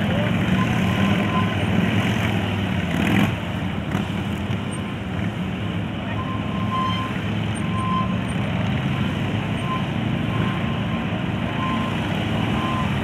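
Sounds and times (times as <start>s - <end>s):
motorcycle engines low drone: 0.0s - 13.0s.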